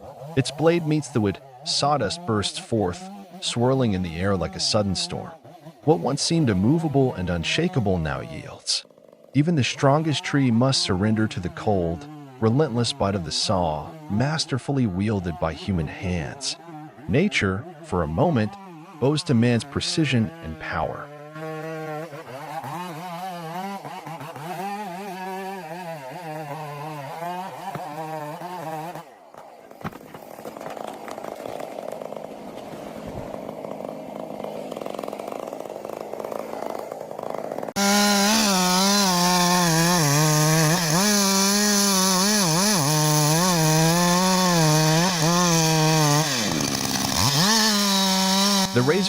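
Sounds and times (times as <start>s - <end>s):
chainsaws cutting logs: 0.0s - 49.0s.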